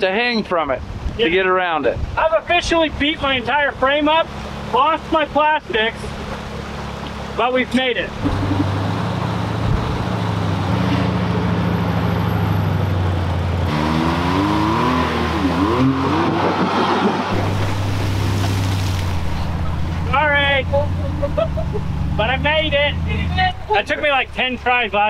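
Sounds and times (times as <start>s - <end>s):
off-road vehicle engine revving: 2.3s - 25.0s.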